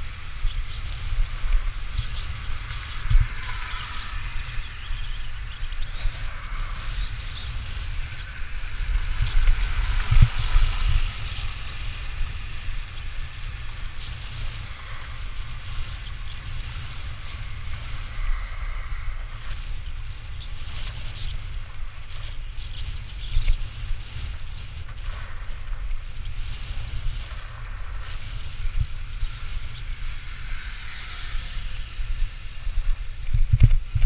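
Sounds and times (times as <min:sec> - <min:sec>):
road noise hiss: 0:00.0 - 0:34.0
wind buffeting microphone: 0:00.0 - 0:34.0.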